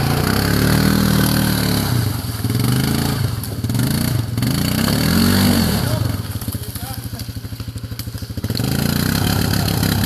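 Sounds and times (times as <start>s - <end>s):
atv engine revving: 0.0s - 10.0s.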